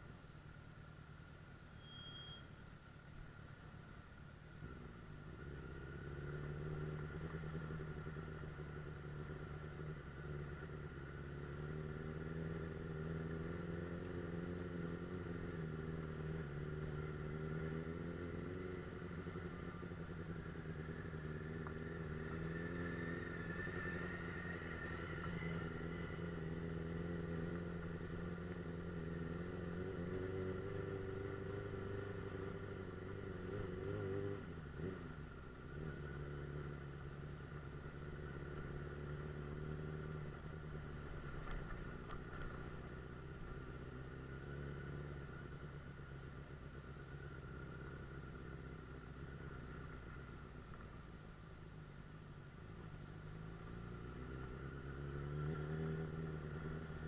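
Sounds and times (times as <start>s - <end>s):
motorcycle engine running: 4.6s - 57.0s.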